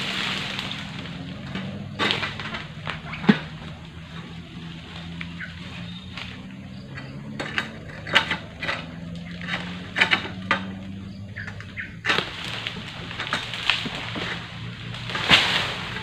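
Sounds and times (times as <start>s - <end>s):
sickle clicking and scraping: 0.0s - 16.0s
steady low hum: 0.0s - 16.0s.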